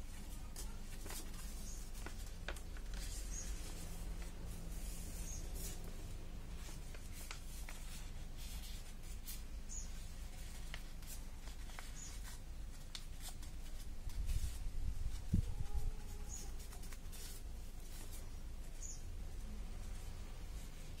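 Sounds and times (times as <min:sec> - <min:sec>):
paper rustling and crinkling: 0:00.0 - 0:18.8.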